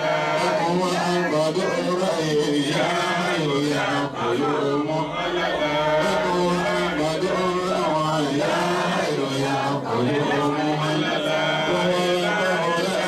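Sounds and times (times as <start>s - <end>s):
man chanting into microphone: 0.0s - 13.0s.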